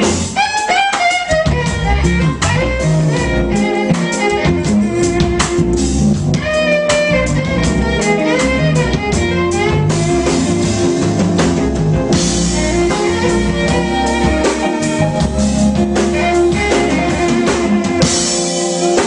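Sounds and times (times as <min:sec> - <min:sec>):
bowed violin melody: 0:00.0 - 0:19.0
funk band playing: 0:00.0 - 0:19.0.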